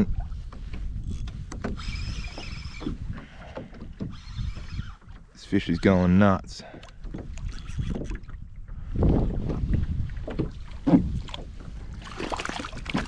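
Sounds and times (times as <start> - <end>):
knocks and rustling on kayak: 0.0 - 5.4, 6.6 - 13.0.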